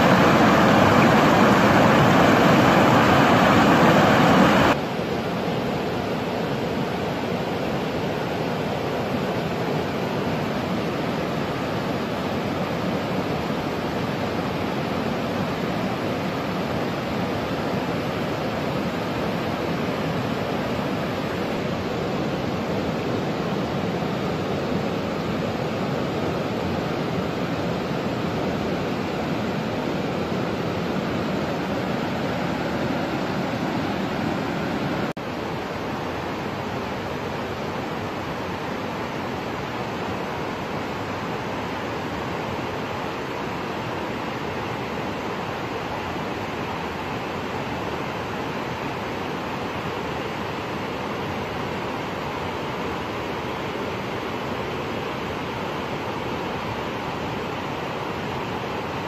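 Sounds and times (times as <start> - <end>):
river white water rushing: 0.0 - 59.0.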